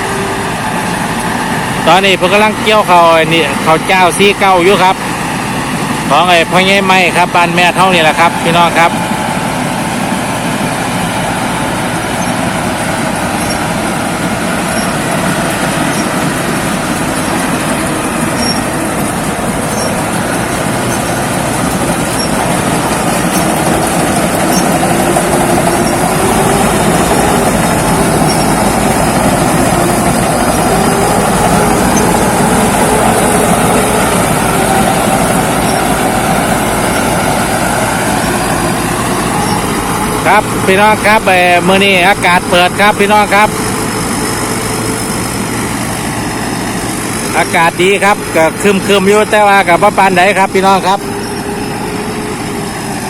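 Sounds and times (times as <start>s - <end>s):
combine harvester running: 0.0s - 53.0s.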